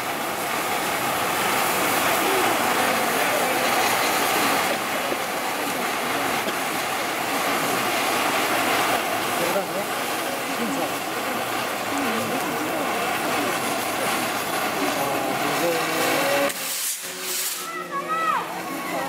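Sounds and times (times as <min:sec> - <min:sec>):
fountain fireworks hissing: 0:00.0 - 0:19.0.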